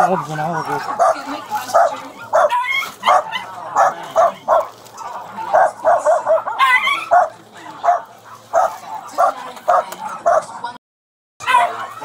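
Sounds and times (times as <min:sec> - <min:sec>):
dog yelping: 0:00.0 - 0:10.5, 0:11.4 - 0:12.0
small dogs barking: 0:00.0 - 0:10.8, 0:11.4 - 0:12.0.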